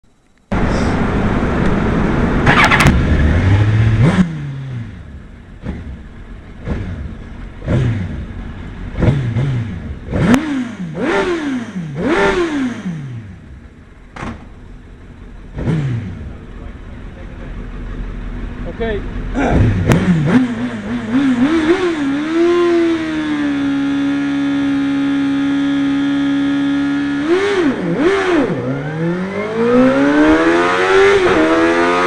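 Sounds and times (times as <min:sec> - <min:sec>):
motorcycle engine revving: 0:00.5 - 0:32.0.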